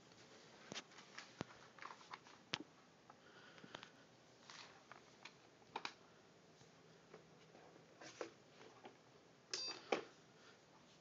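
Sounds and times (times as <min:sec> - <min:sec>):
faint handling clicks and rustles: 0:00.1 - 0:09.0.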